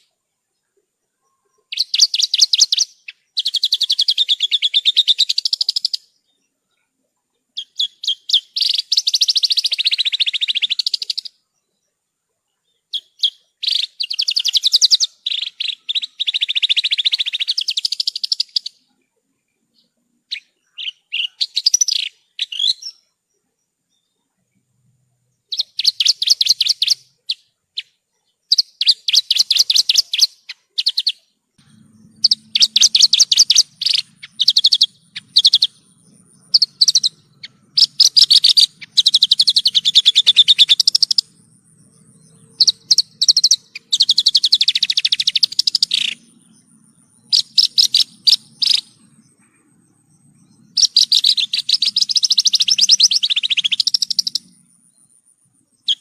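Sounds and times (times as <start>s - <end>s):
lark singing trilled song: 1.2s - 6.9s, 7.5s - 11.9s, 12.6s - 19.0s, 19.7s - 24.2s, 25.3s - 56.0s.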